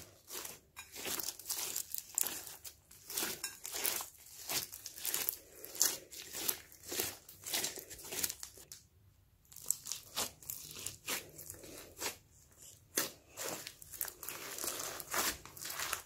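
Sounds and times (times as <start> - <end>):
hands squishing slime: 0.0 - 8.8, 9.4 - 16.0.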